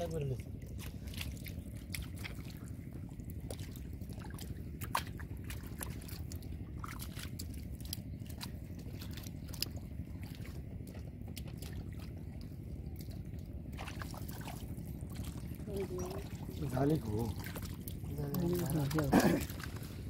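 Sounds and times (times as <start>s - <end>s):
steady low rumble: 0.0s - 20.0s
hands splashing in muddy water: 0.6s - 20.0s.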